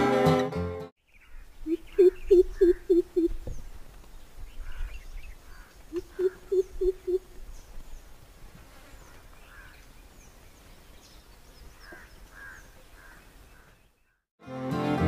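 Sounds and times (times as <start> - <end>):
faint outdoor ambience: 1.0 - 14.1.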